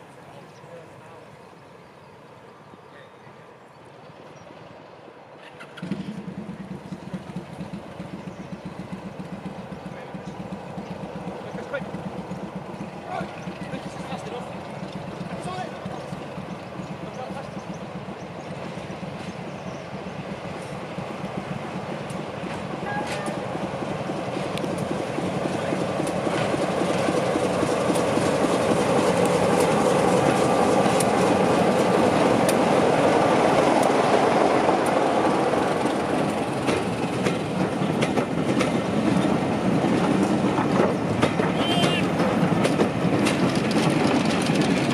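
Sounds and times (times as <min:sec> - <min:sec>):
diesel locomotive engine passing: 0:00.0 - 0:44.9
wheels clicking over rail joints: 0:05.4 - 0:44.9.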